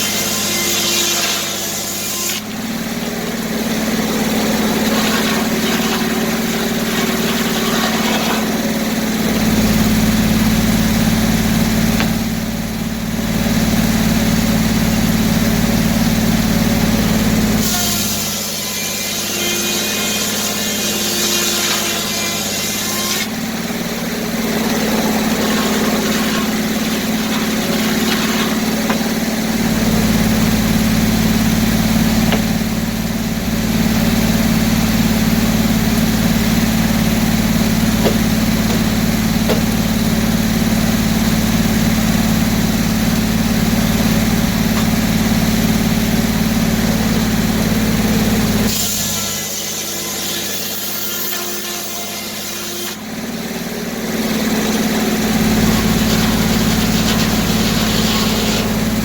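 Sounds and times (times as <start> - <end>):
circular sawmill running: 0.0 - 59.0.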